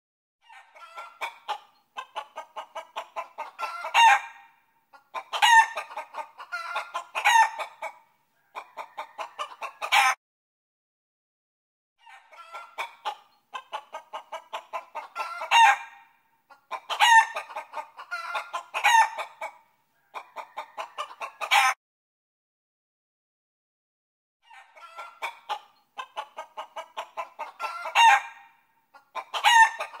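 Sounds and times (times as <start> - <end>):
chicken clucking: 0.4 - 10.2, 12.0 - 21.8, 24.4 - 30.0
chicken drawn-out calls: 0.4 - 10.2, 12.0 - 21.8, 24.4 - 30.0.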